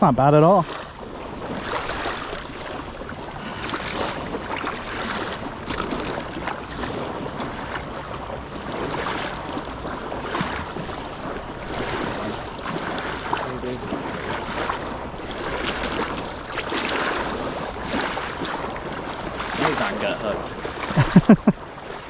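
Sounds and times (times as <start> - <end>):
water lapping and sloshing: 0.0 - 22.0
wind on microphone: 0.0 - 22.0.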